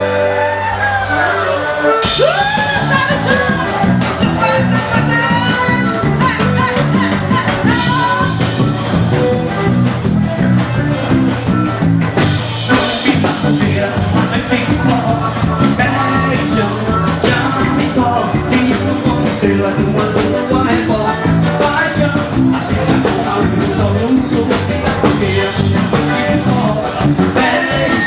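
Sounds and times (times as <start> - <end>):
band music with fast beat: 0.0 - 28.0.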